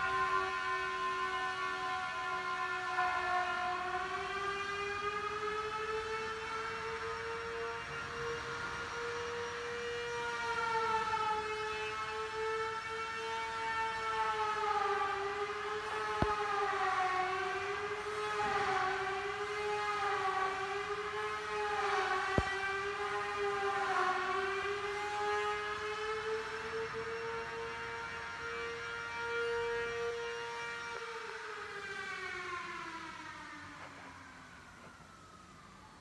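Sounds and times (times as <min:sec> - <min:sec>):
wavering siren-like tone: 0:00.0 - 0:36.0.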